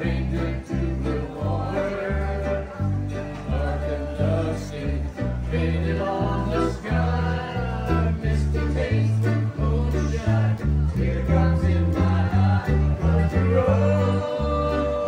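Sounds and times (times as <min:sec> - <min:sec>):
low bass notes: 0:00.0 - 0:15.0
man singing into a microphone: 0:00.0 - 0:15.0.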